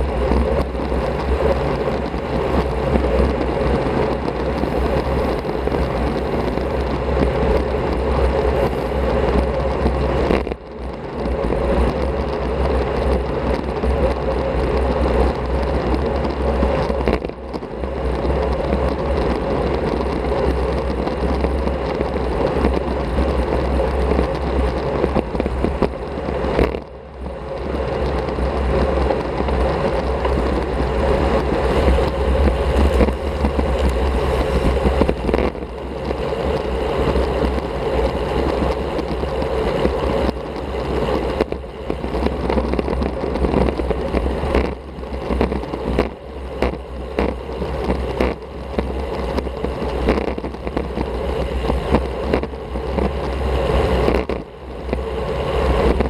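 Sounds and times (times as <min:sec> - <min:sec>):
bike tyre noise on road: 0:00.0 - 0:56.0
wind rushing on microphone: 0:00.0 - 0:56.0.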